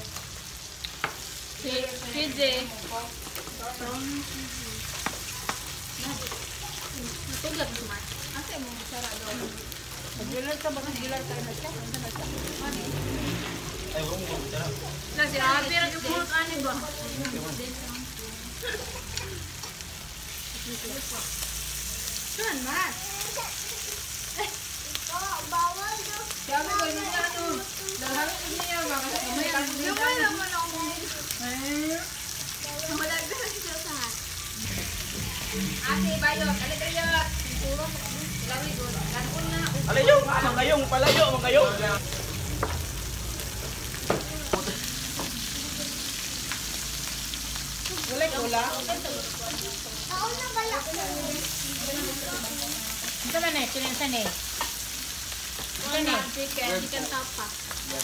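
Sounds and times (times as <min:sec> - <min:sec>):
meat sizzling on a grill pan: 0:00.0 - 0:58.0.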